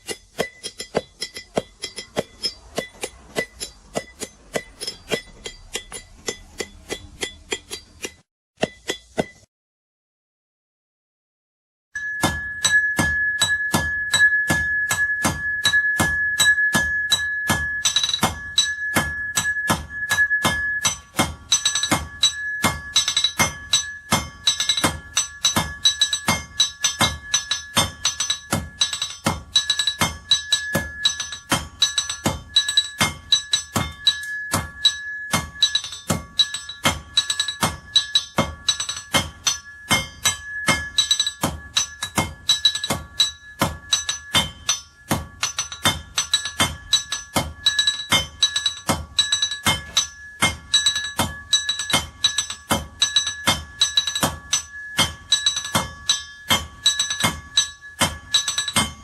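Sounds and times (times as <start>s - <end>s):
hammer striking anvil: 0.0s - 9.5s, 12.0s - 59.0s.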